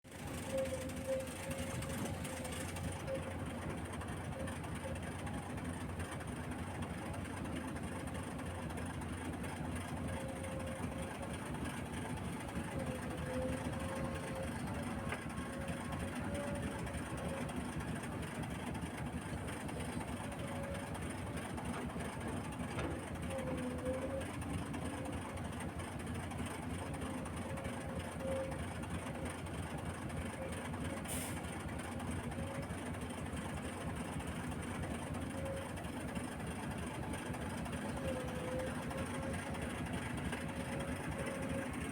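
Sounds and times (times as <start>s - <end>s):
excavator engine running: 0.1s - 41.9s.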